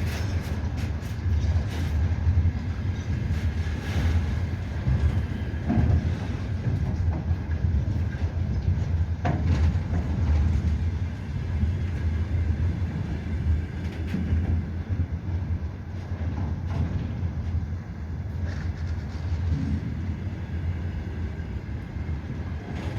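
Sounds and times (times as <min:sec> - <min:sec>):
freight train wagons rumbling: 0:00.0 - 0:22.9
wheels clicking over rail joints: 0:00.0 - 0:22.9.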